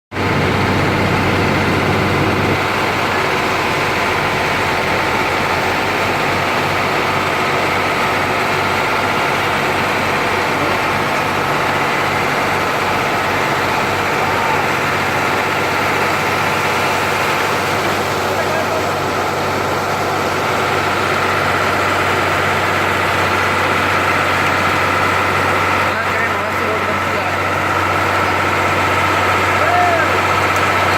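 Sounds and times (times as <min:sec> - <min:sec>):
heavy machine engine idling: 0:00.1 - 0:30.9.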